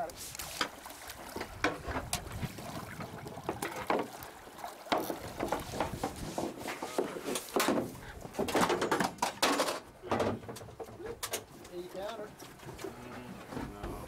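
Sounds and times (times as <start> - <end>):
water noise: 0.0 - 14.0
wind: 0.0 - 14.0.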